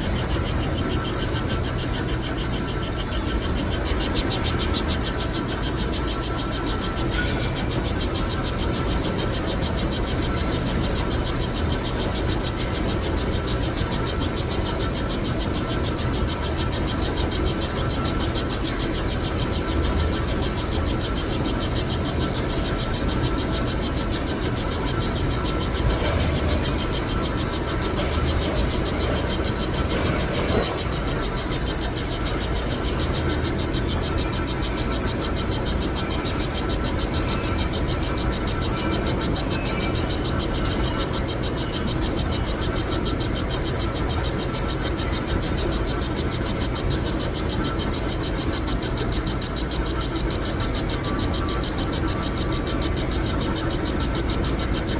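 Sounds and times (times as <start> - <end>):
faint whining tones: 0.0 - 54.9
metal lathe humming: 0.0 - 54.9.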